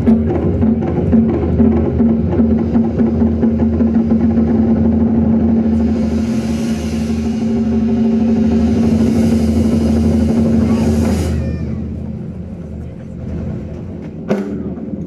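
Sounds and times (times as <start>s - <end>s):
drum roll rumbling: 0.0s - 15.0s.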